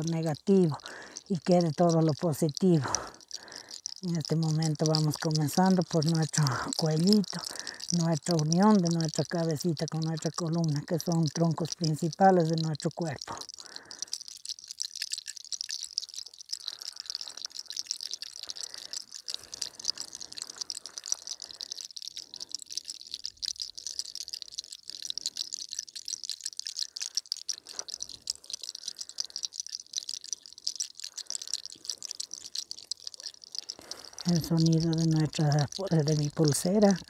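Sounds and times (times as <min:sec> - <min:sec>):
bead bracelets rattling and clicking: 0:00.0 - 0:37.0.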